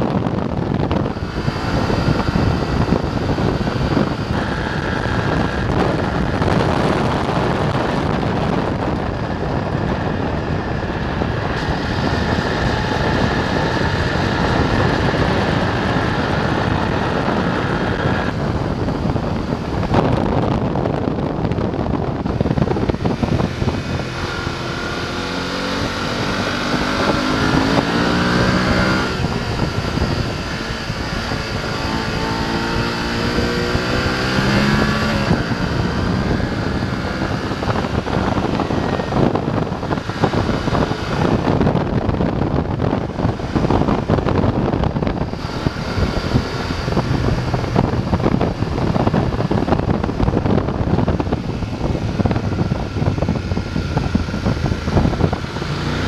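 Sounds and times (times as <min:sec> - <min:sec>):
motorcycle engine revving: 0:00.0 - 0:56.0
wind rushing over microphone: 0:00.0 - 0:56.0.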